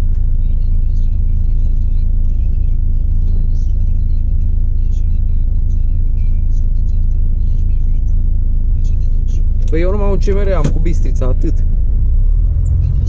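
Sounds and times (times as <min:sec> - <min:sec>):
truck diesel engine rumble: 0:00.0 - 0:13.0.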